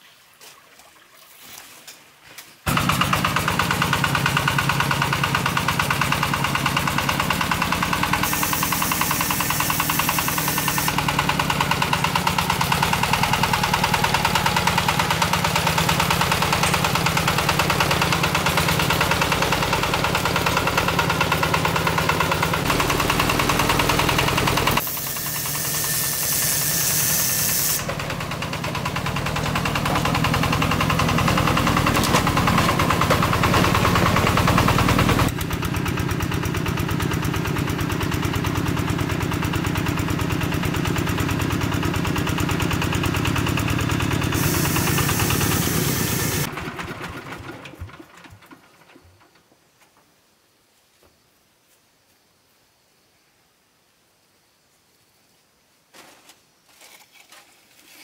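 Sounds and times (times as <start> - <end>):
diesel engine chugging: 2.7 - 49.2.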